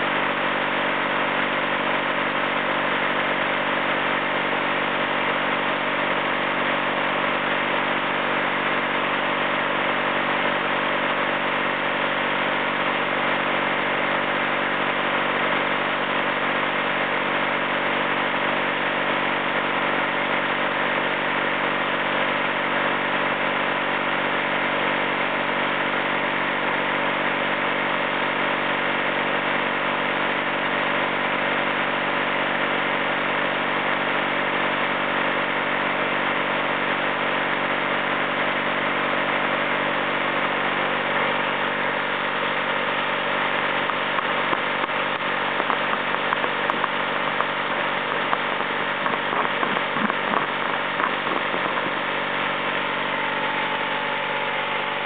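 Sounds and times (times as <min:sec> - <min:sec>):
gasoline engine running steadily: 0:00.0 - 0:55.0.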